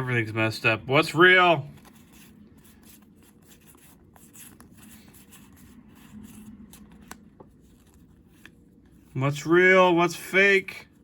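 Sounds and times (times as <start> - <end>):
trading cards rustling and sliding: 0.4 - 11.0.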